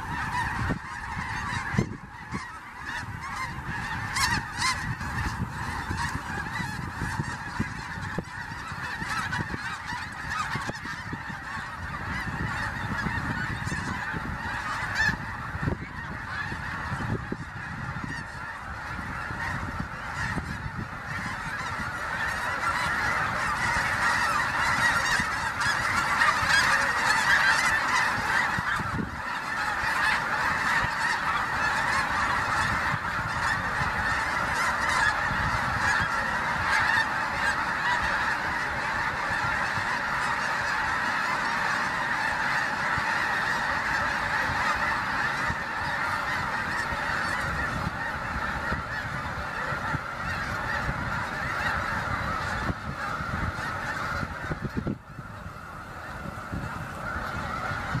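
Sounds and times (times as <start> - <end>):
flock of geese honking: 0.0 - 58.0.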